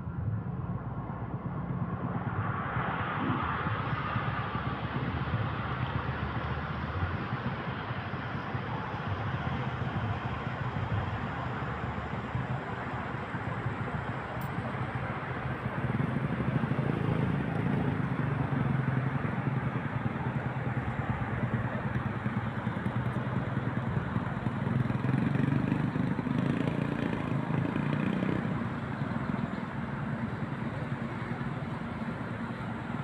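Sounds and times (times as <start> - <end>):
road vehicles passing: 0.0 - 33.0.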